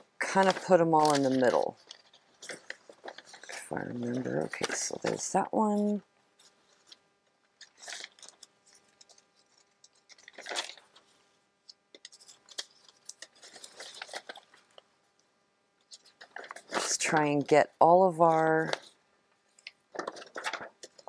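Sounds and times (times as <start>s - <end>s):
paper rustling and crinkling: 0.2s - 14.8s, 15.8s - 17.2s, 18.3s - 21.0s.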